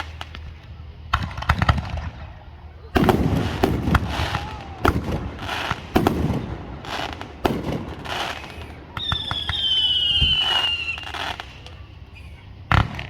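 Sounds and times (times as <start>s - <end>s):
fireworks bangs and crackling: 0.0s - 13.0s
whistling firework: 0.0s - 13.0s.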